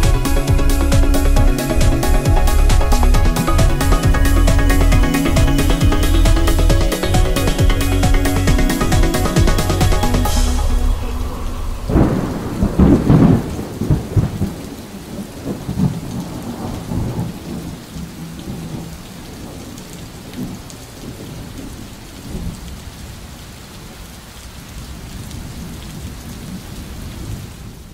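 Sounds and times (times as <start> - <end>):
thunder rumbling: 0.0 - 22.5
steady rainfall: 0.0 - 27.9.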